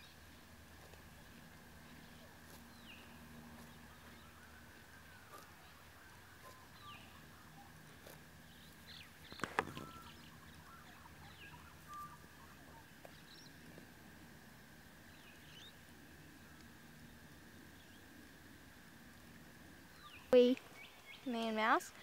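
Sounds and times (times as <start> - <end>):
birds chirping: 0.0 - 22.0
faint steady hum: 0.0 - 22.0.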